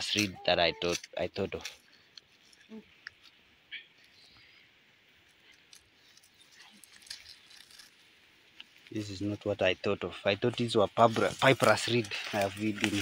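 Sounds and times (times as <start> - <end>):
faint high hiss: 0.0 - 13.0.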